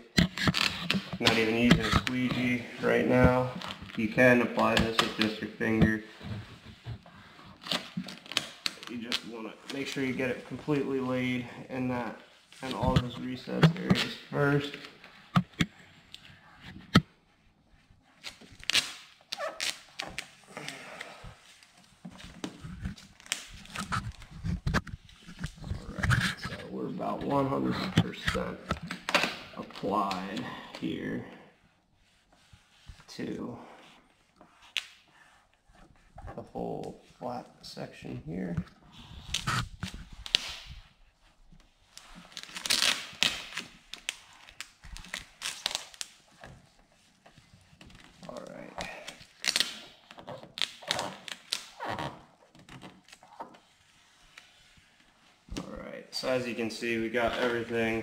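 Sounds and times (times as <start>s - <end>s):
vinyl film rustling and crackling: 0.0s - 33.4s, 34.0s - 58.0s.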